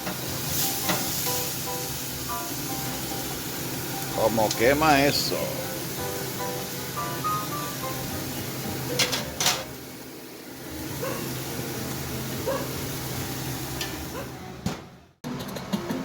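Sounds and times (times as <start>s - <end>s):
steaks sizzling on a grill: 0.0s - 14.2s.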